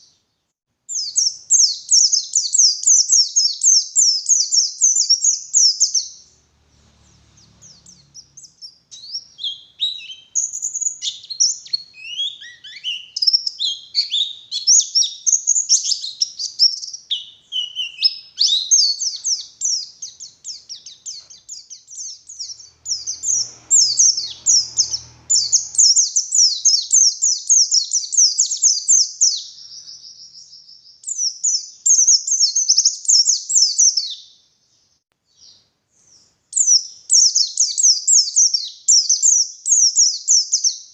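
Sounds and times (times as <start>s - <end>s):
bird twittering song: 0.9s - 40.9s.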